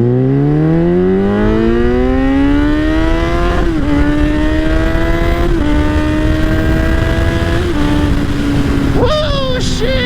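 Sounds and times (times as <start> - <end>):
engine upshift: 0.0 - 10.0
motorcycle accelerating hard: 0.0 - 10.0.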